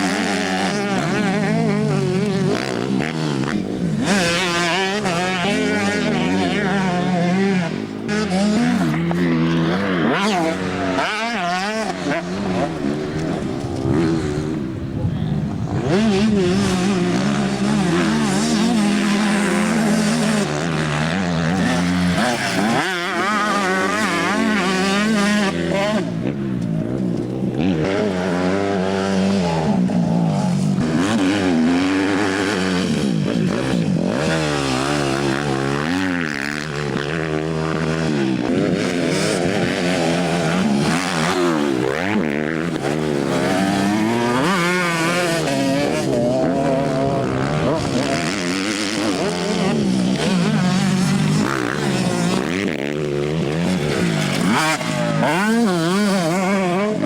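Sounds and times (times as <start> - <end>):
motocross bikes revving: 0.0 - 57.0.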